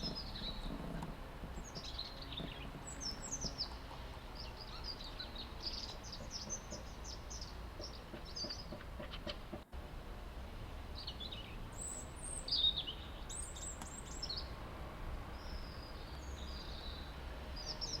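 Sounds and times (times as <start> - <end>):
songbirds chirping and singing: 0.0 - 9.7, 10.7 - 14.6, 15.3 - 18.0.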